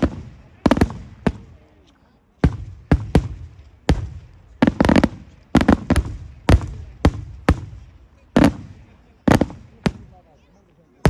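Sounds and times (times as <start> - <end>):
fireworks bangs with echo: 0.0 - 1.8, 2.4 - 10.3.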